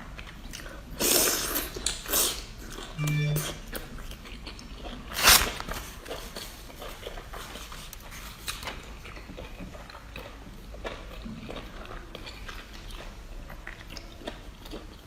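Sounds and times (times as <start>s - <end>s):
person chewing noisily: 0.0s - 15.0s.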